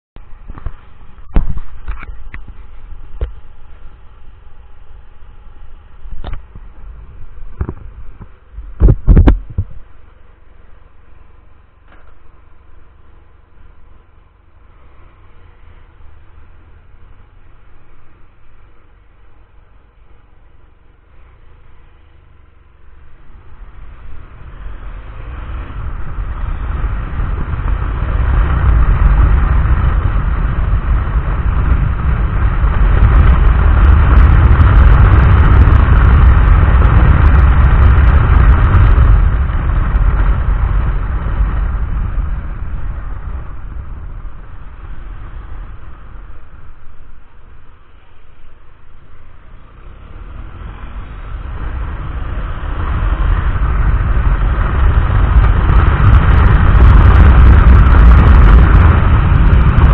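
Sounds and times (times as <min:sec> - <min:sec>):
low motorcycle rumble: 0:00.0 - 0:59.9
wind rushing over microphone: 0:00.2 - 0:59.9.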